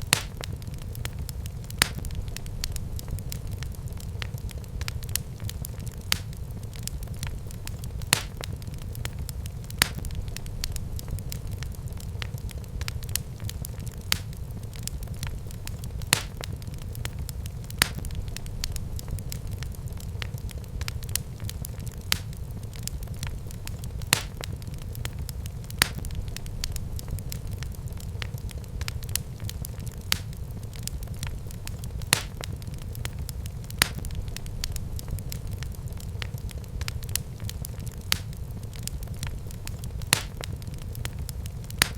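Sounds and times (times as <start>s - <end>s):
fire crackling and popping: 0.0s - 41.9s
loud fire snaps: 0.0s - 41.9s
low fire rumble: 0.0s - 41.9s.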